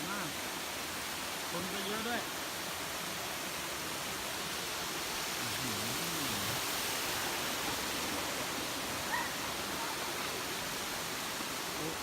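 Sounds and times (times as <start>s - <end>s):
water rushing down waterfall: 0.0s - 12.0s.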